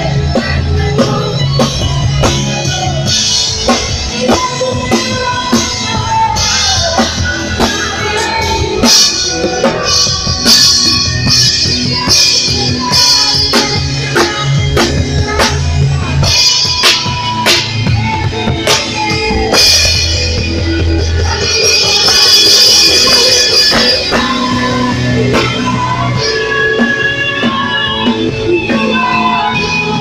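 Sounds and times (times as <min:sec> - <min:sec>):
live band music: 0:00.0 - 0:30.0.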